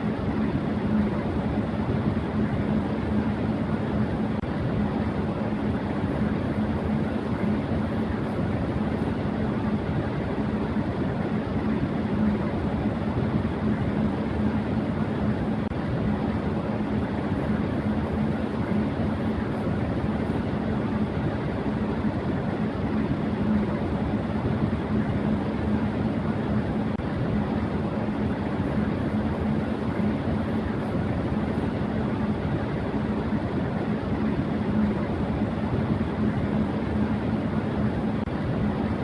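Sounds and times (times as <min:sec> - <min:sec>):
electric fan running: 0:00.0 - 0:39.0.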